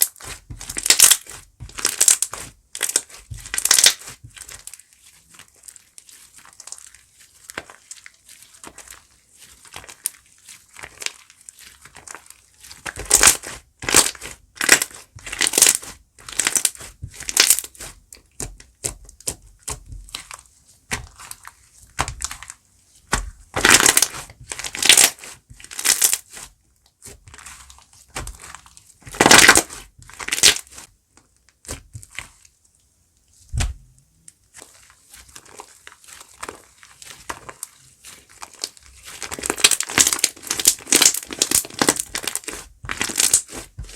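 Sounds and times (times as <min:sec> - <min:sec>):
slime squishing by hand: 0:00.0 - 0:43.9.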